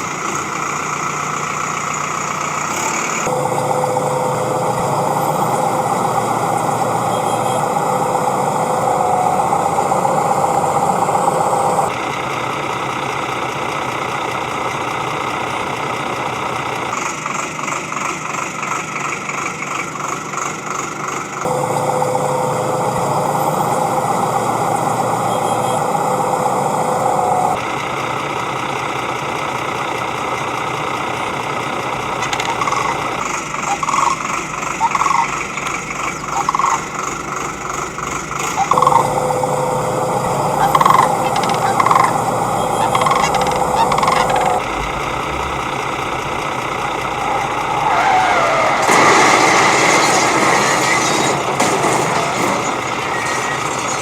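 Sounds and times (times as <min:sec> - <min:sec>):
motor humming: 0:00.0 - 0:17.0, 0:21.5 - 0:54.0.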